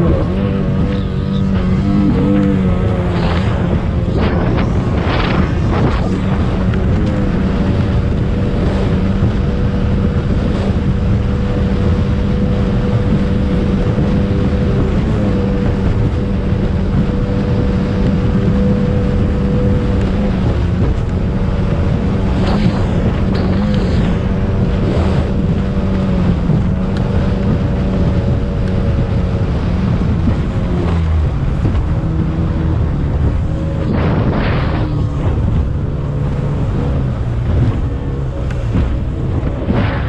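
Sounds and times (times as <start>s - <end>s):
speedboat engine running: 0.0s - 40.0s
wind buffeting microphone: 0.0s - 40.0s.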